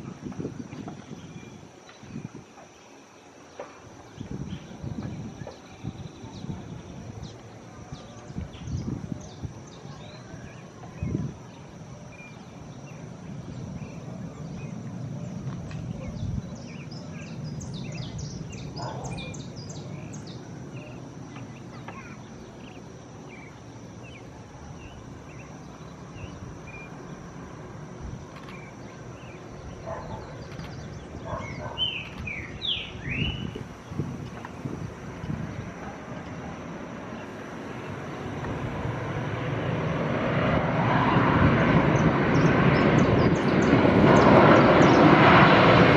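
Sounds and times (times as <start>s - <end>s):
birds chirping: 0.0s - 27.2s, 28.2s - 38.8s, 41.0s - 45.7s.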